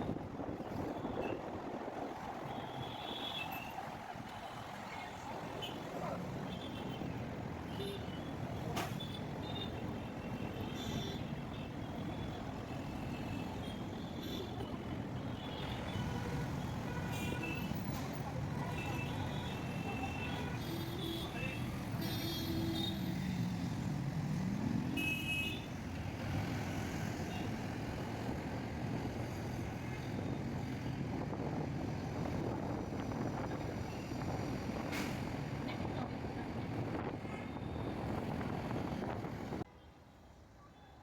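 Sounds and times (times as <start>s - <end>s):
traffic rumble: 0.0s - 39.7s.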